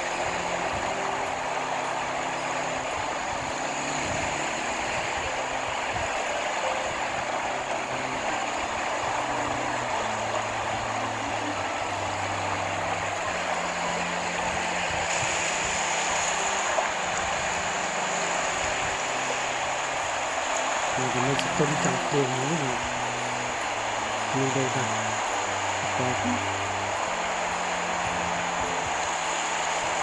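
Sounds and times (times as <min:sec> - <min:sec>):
constant rushing noise: 0:00.0 - 0:30.0
low engine hum: 0:00.0 - 0:30.0.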